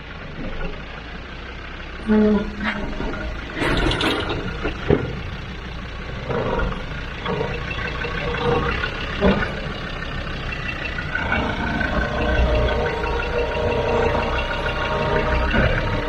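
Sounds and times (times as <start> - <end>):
diesel engine at low revs: 0.0 - 16.0.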